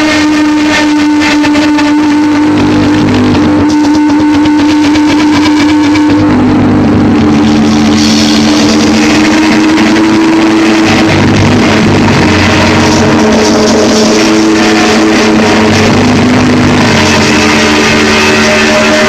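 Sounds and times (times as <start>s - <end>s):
distorted electric guitars droning: 0.0s - 19.0s
thick wash of noise: 0.9s - 19.0s.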